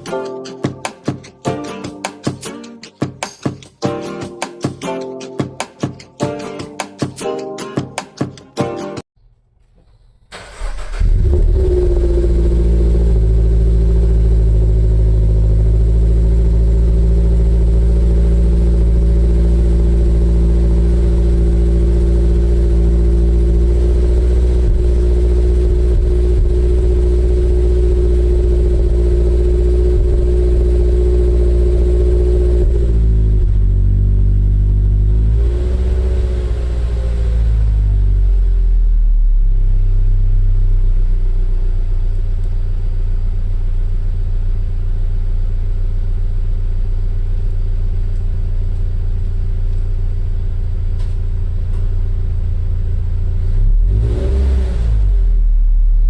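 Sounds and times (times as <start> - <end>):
car engine starting and idling: 9.2 - 56.0.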